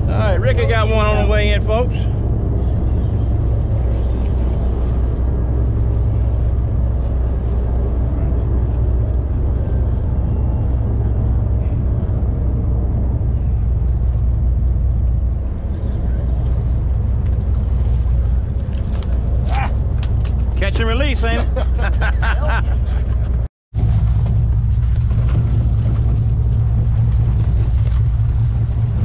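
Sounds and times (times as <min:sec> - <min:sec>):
boat diesel engines droning: 0:00.0 - 0:29.0.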